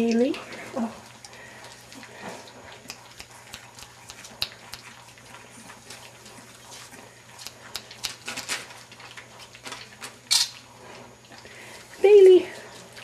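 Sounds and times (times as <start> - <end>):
puppy claws clicking and scrabbling: 0.0 - 11.5.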